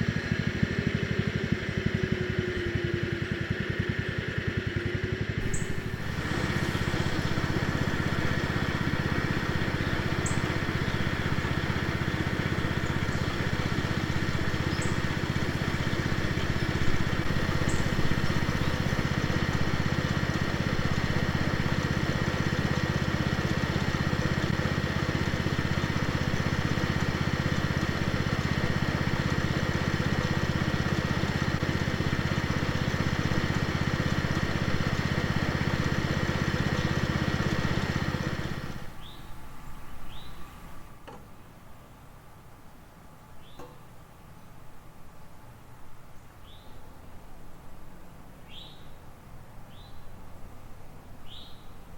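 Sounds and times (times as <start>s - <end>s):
garden tractor engine running: 0.0s - 46.0s.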